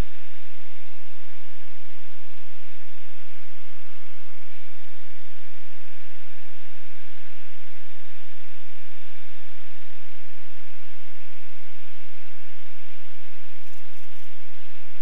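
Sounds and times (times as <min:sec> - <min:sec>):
motorglider engine and propeller drone: 0:00.0 - 0:15.0.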